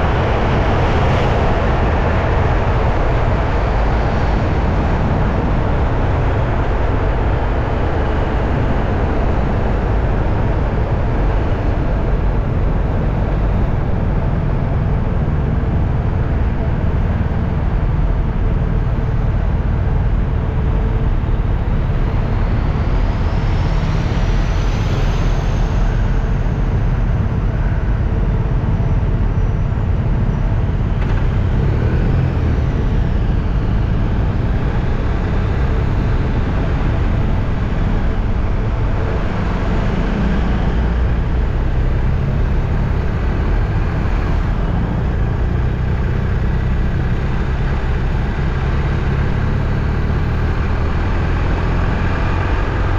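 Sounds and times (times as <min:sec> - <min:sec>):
vehicle engine and road noise: 0:00.0 - 0:52.9.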